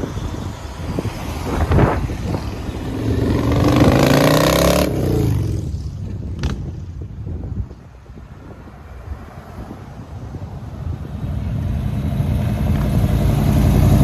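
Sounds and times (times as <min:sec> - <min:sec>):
road and traffic rumble: 0:00.0 - 0:14.0.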